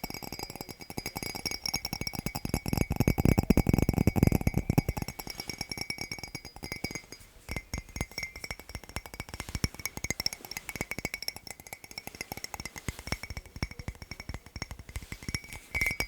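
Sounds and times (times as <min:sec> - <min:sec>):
faint ringing clink: 0:00.0 - 0:16.0
fingers tapping on hard objects: 0:00.0 - 0:16.0.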